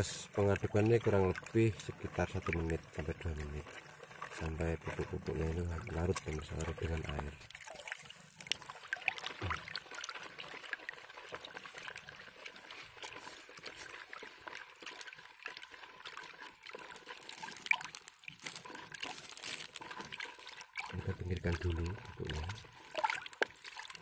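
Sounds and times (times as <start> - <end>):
water swishing in a bucket: 0.0 - 24.0.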